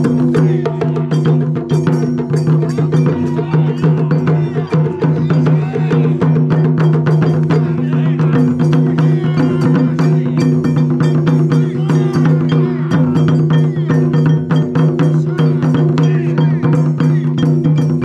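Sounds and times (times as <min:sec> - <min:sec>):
taiko drum ensemble: 0:00.0 - 0:18.0.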